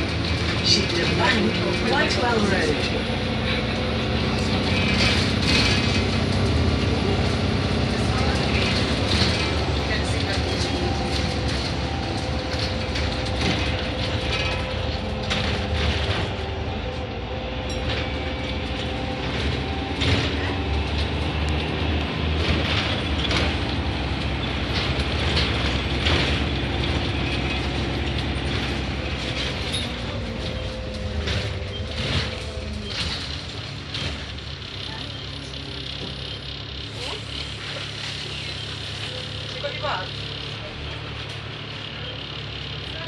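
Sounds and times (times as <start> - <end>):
bus body rattling and knocking: 0.0 - 43.0
bus engine rumbling: 0.0 - 43.0.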